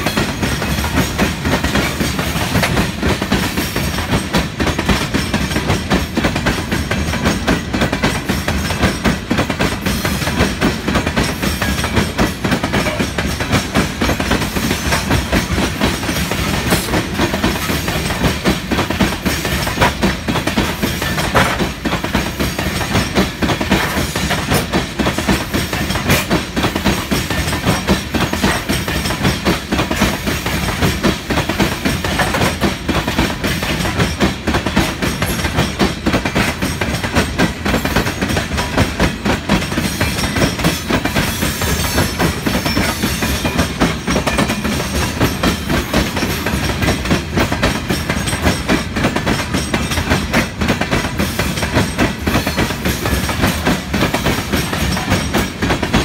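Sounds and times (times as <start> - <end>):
clickety-clack over rail joints: 0.0 - 56.0
steel wheels rumbling and rattling: 0.0 - 56.0.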